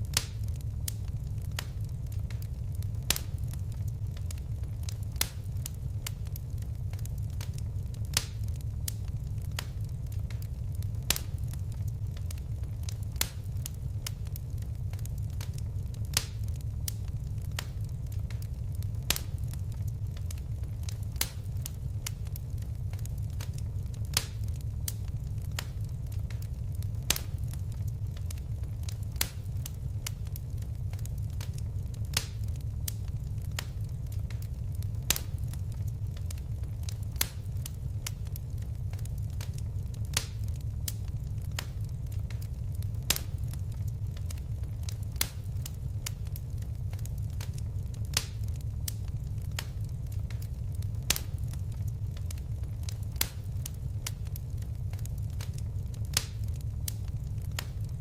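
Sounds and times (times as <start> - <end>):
fire flames rumbling: 0.0 - 58.0
fire pops and snaps: 0.0 - 58.0.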